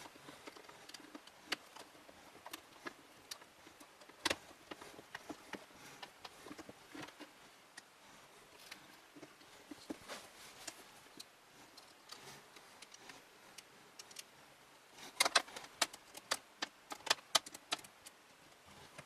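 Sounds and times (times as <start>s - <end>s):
small clicks and taps: 0.0s - 7.9s, 10.6s - 14.3s, 15.0s - 19.0s.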